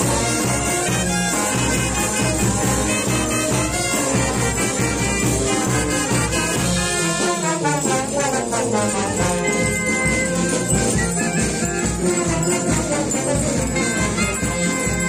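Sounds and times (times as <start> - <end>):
bells jingling: 0.0 - 15.0
brass band playing dance tune: 0.0 - 15.0.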